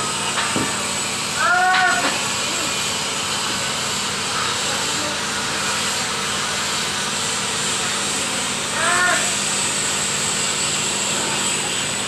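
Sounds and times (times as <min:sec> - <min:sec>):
lathe humming and hissing: 0:00.0 - 0:12.0.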